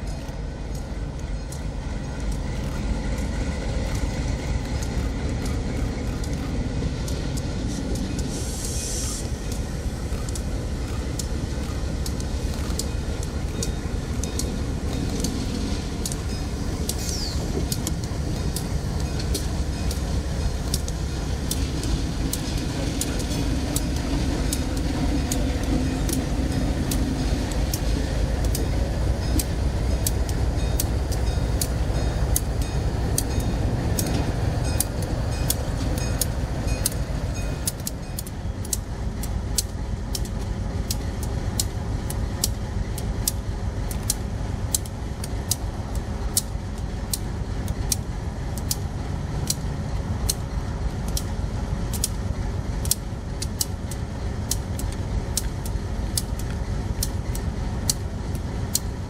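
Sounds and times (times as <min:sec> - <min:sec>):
freight train rumbling: 0:00.0 - 0:59.0
wheels clicking over rail joints: 0:00.0 - 0:59.0.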